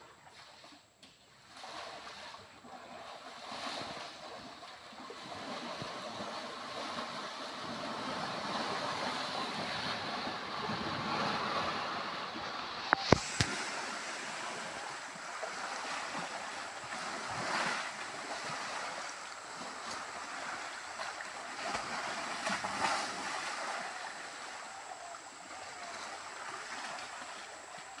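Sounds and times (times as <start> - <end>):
elephants splashing in water: 0.0 - 28.0
rushing stream water: 0.0 - 28.0.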